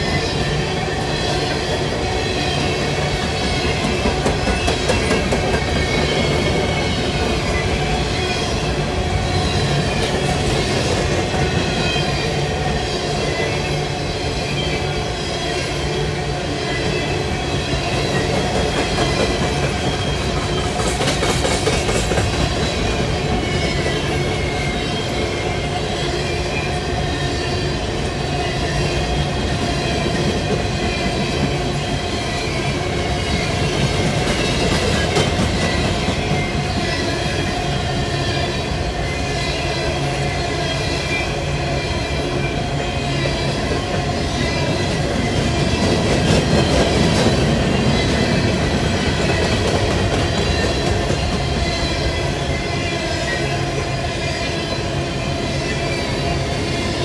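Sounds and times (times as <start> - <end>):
rattling train cars: 0.0 - 57.0
train wheels rumbling on rail: 0.0 - 57.0.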